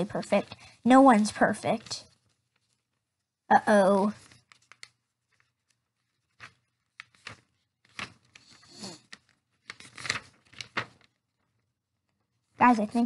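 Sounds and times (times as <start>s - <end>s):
paper rustling and crinkling: 0.0s - 3.2s, 3.8s - 13.0s.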